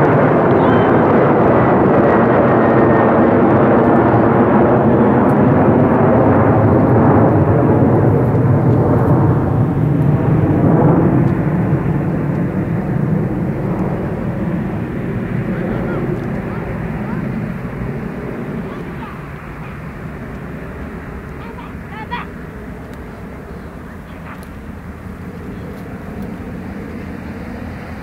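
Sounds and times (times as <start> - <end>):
jet airliner climbing overhead: 0.0 - 28.0.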